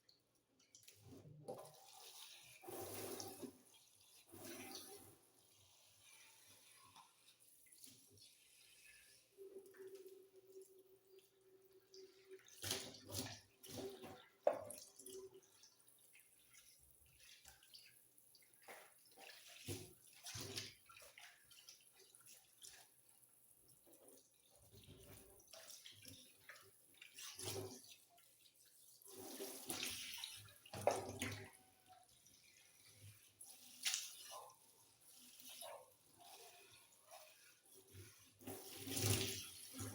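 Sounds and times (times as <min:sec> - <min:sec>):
water running in a sink: 0:00.0 - 0:39.9.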